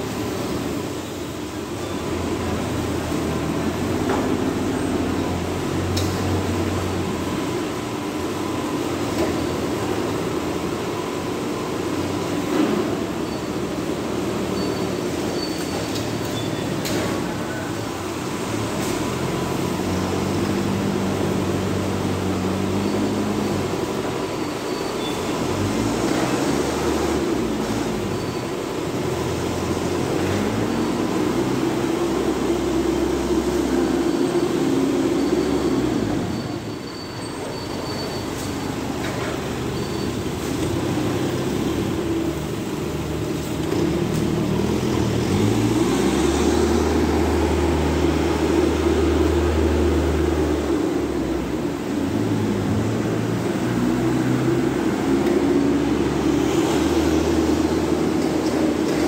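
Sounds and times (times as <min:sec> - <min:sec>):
forklift engines revving: 0:00.0 - 0:59.0.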